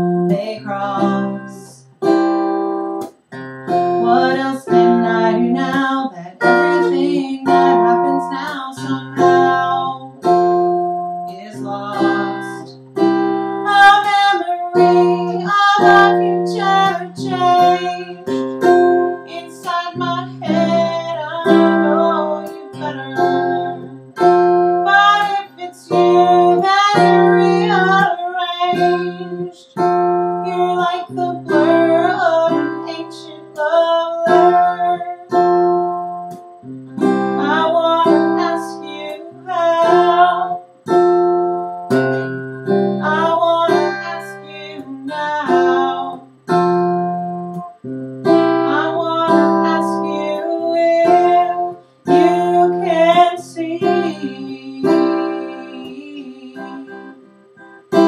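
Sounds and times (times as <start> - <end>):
woman singing: 0.0 - 3.1, 3.7 - 36.4, 37.0 - 47.7, 48.3 - 57.3
acoustic guitar strumming: 0.0 - 58.0.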